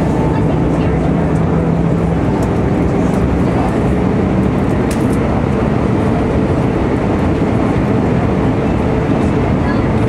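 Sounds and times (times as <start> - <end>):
jet engines running: 0.0 - 10.0
low hum: 0.0 - 10.0.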